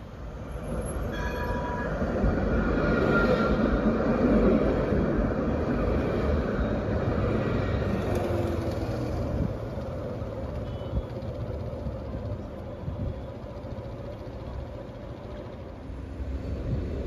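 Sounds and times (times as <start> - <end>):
tram rolling past on track: 0.0 - 17.0.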